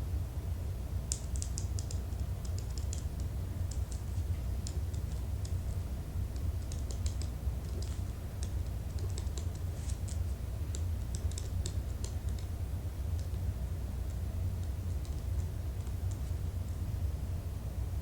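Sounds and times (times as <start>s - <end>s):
steady low hum: 0.0s - 18.0s
computer keyboard typing: 1.1s - 13.4s, 14.1s - 16.3s.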